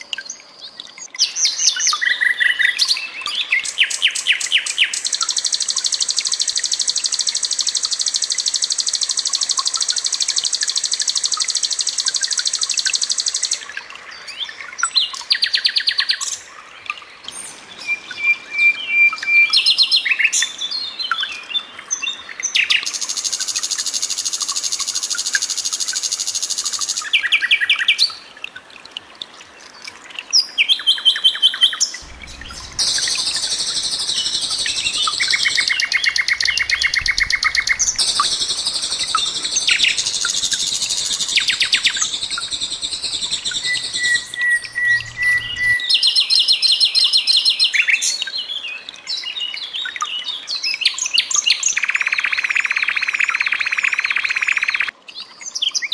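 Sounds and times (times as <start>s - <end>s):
nightingale singing: 0.2s - 13.8s, 17.2s - 28.2s, 30.7s - 54.9s.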